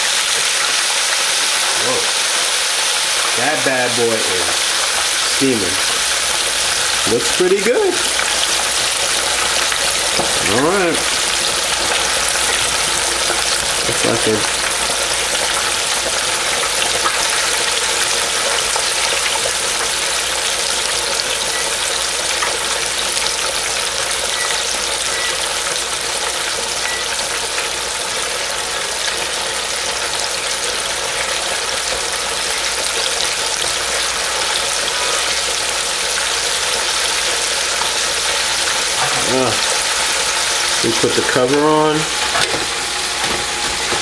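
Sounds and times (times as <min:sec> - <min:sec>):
oil sizzling in deep fryer: 0:00.0 - 0:44.0.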